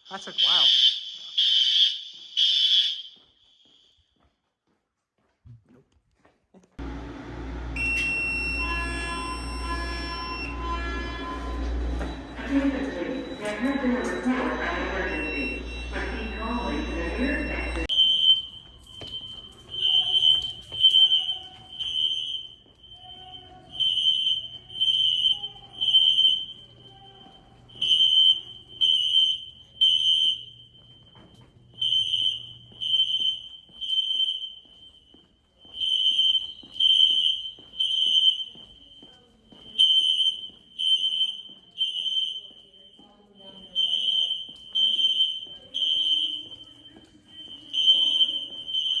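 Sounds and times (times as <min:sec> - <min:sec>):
fire alarm beeping: 0:00.0 - 0:04.4, 0:07.6 - 0:49.0.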